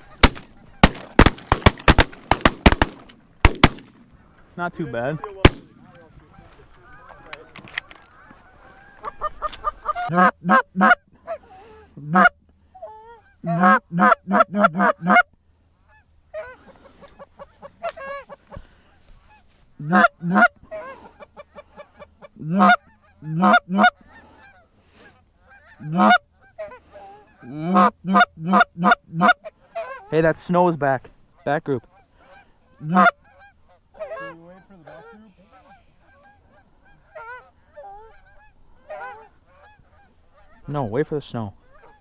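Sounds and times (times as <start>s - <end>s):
goose honking and clucking: 0.0s - 1.6s, 4.7s - 42.0s.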